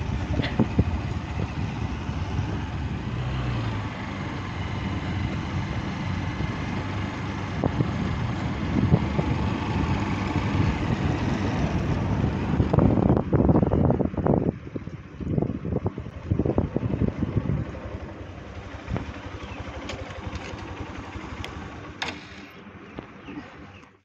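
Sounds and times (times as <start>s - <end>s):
wind gusts on microphone: 0.0s - 19.4s
motorcycle engine running: 0.0s - 24.0s
road noise rush: 0.0s - 24.0s.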